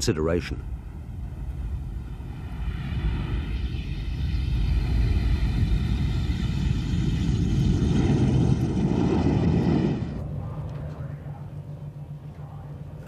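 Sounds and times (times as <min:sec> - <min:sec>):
jet engines landing: 0:00.0 - 0:13.0.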